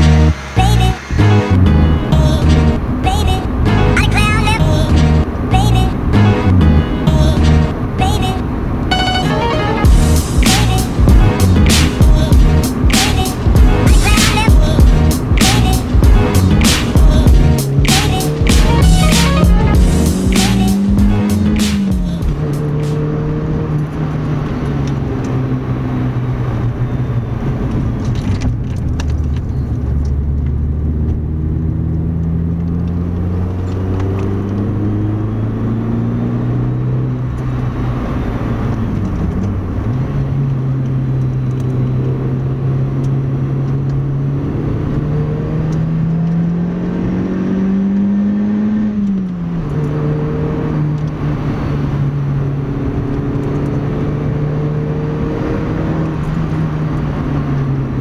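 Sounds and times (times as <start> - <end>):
car engine accelerating: 0.0 - 58.0
road and tyre noise: 0.0 - 58.0.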